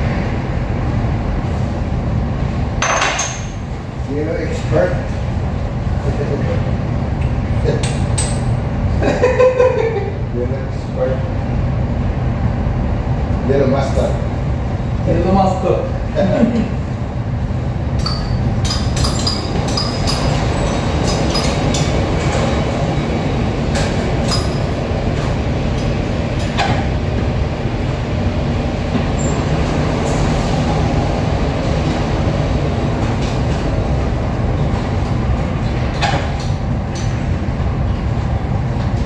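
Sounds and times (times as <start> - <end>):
machinery rumbling: 0.0 - 39.0.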